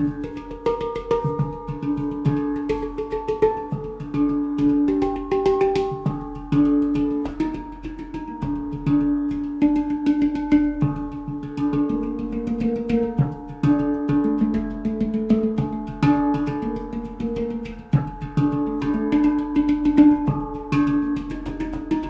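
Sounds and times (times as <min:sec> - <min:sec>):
handpan played with fingers: 0:00.0 - 0:22.0.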